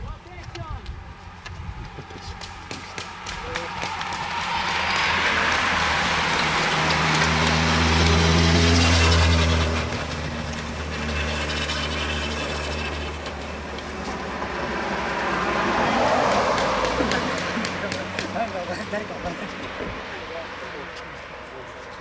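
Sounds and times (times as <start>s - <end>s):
road noise: 0.0s - 22.0s
vehicle engine passing by: 1.2s - 21.9s.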